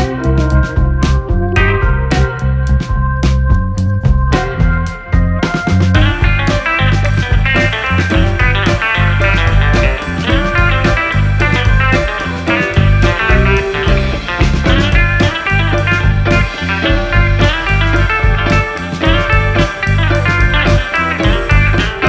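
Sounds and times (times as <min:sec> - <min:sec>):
rock music with guitar and drums: 0:00.0 - 0:22.0.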